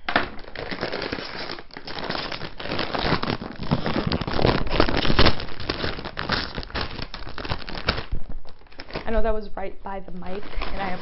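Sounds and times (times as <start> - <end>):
chip bag rustling and crackling: 0.4 - 9.2, 10.3 - 11.0.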